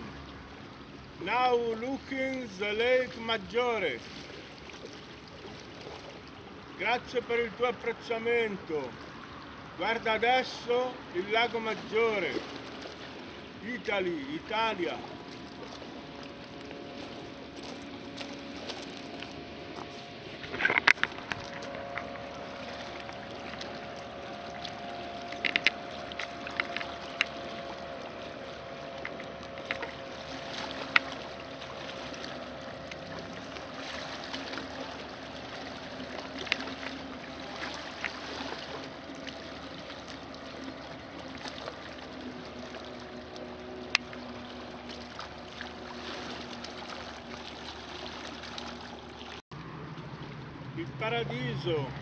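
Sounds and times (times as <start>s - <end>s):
distant motorboat engine drone: 0.0s - 52.0s.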